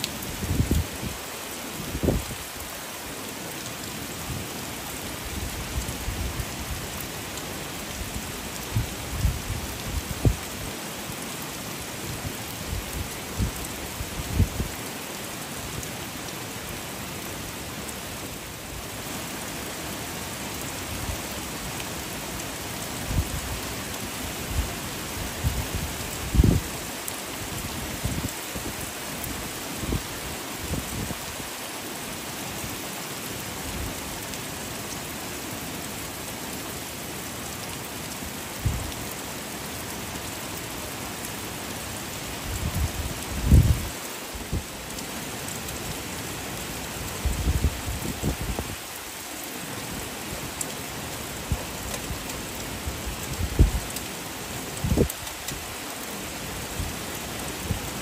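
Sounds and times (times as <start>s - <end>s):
rain on foliage: 0.0s - 58.0s
wind gusts: 0.0s - 58.0s.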